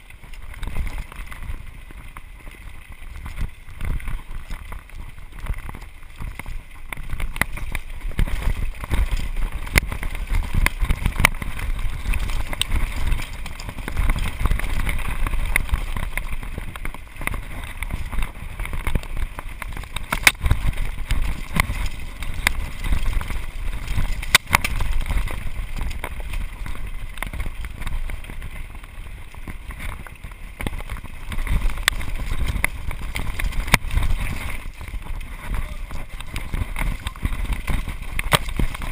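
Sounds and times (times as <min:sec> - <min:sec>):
bike clicking and rattling: 0:00.0 - 0:38.9
tyres rumbling on dirt: 0:00.0 - 0:38.9
wind on microphone: 0:03.0 - 0:38.9.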